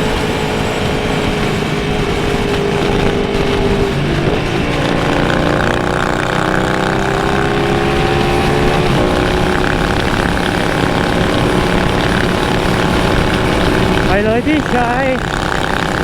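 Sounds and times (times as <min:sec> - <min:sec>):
motorcycle engine revving: 0:00.0 - 0:16.0
wind and road noise: 0:00.0 - 0:16.0.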